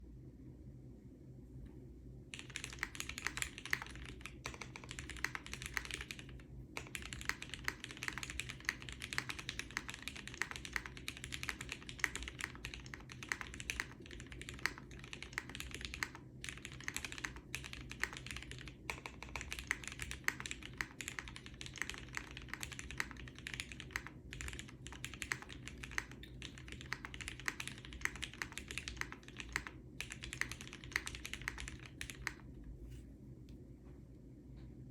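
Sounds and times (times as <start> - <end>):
mechanical keyboard typing: 2.3 - 32.5.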